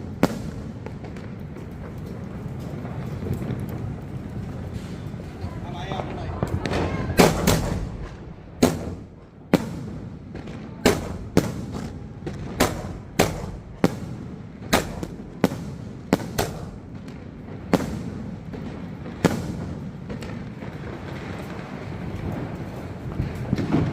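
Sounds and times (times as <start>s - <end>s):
firework bangs with echo: 0.0s - 23.9s.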